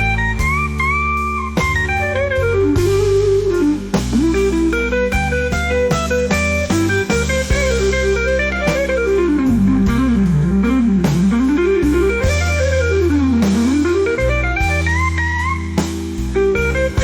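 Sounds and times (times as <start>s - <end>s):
instrumental blues music: 0.0s - 17.0s.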